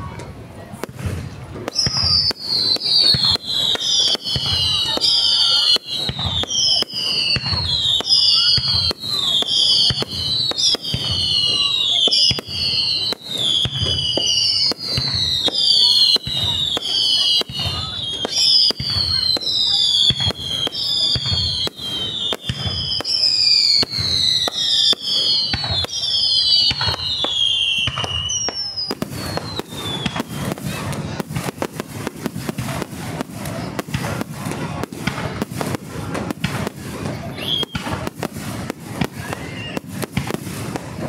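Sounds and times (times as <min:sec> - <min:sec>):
firework bangs and crackles: 0:00.0 - 0:41.0
firework whistles falling in pitch: 0:01.6 - 0:34.3, 0:35.1 - 0:41.0.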